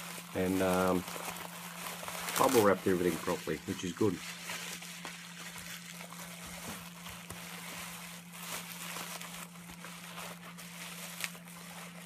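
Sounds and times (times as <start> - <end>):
bubble wrap crinkling: 0.0 - 12.0
steady low hum: 0.0 - 12.0.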